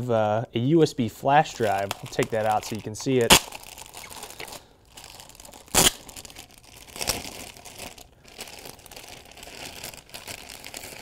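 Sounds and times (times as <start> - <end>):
plastic bag crinkling: 1.5 - 11.0.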